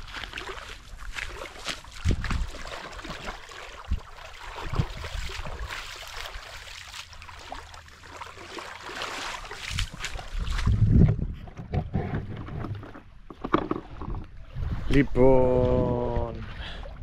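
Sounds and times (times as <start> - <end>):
water splashing and lapping: 0.0 - 17.0.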